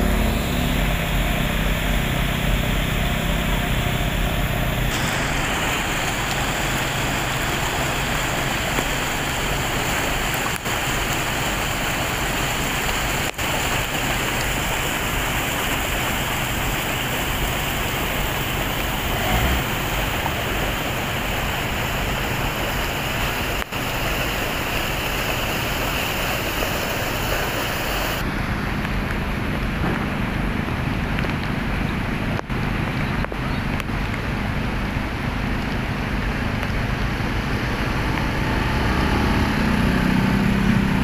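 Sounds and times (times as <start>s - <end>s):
heavy rain: 0.0s - 41.0s
rushing runoff water: 0.0s - 41.0s.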